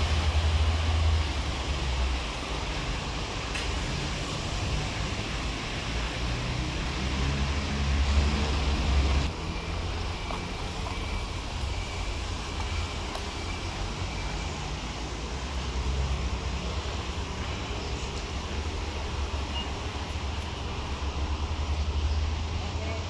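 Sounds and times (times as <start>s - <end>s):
traffic background: 0.0s - 23.0s
vehicle engine rumble: 0.0s - 23.0s.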